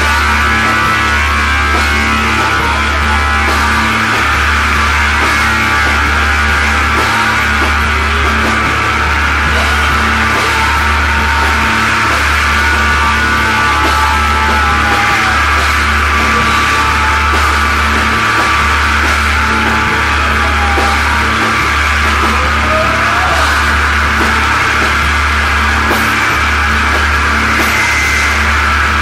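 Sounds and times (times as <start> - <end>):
deep bass: 0.0 - 29.0
heavy psychedelic rock music: 0.0 - 29.0.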